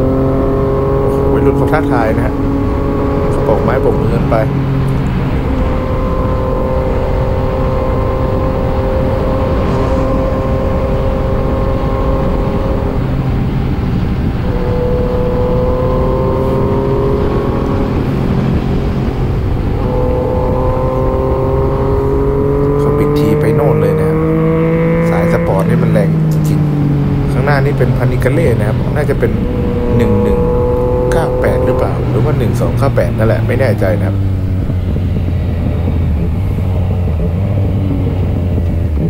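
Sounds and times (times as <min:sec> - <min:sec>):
motorcycle engine running: 0:00.0 - 0:39.0
wind rush over microphone: 0:00.0 - 0:39.0.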